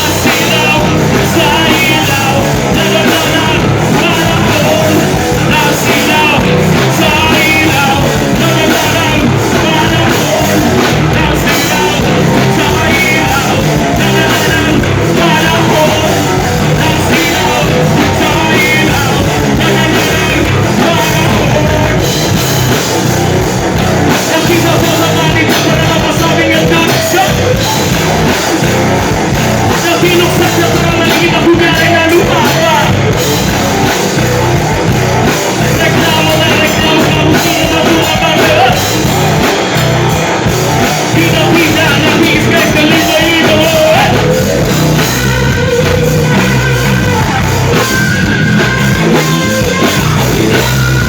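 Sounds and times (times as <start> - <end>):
loud rock music: 0.0 - 51.0
person singing: 0.0 - 51.0.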